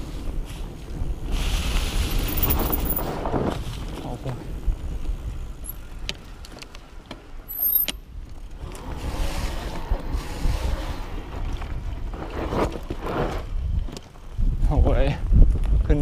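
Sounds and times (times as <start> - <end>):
wind rumble on microphone: 0.0 - 6.9, 8.0 - 16.0
bike tyre noise: 0.0 - 16.0.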